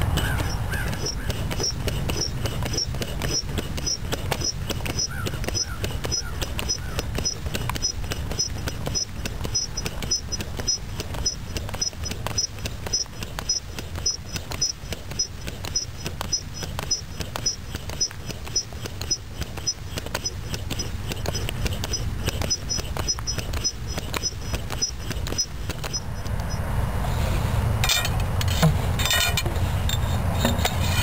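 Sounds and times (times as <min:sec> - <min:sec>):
foot air pump clicking: 0:00.0 - 0:31.0.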